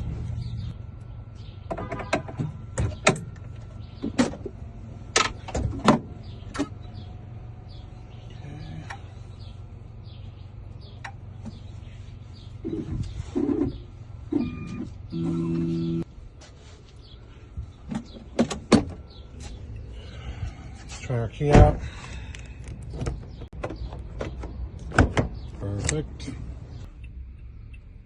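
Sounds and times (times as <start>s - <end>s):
steady low hum: 0.0s - 23.3s.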